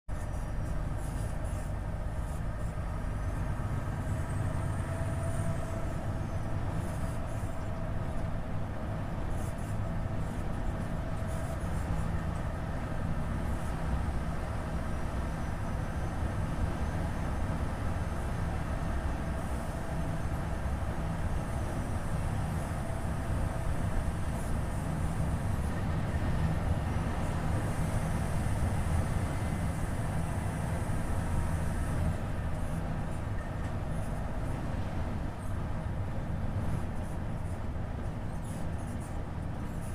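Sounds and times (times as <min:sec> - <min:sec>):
road noise: 0:00.1 - 0:39.9
truck diesel engine drone: 0:00.1 - 0:39.9.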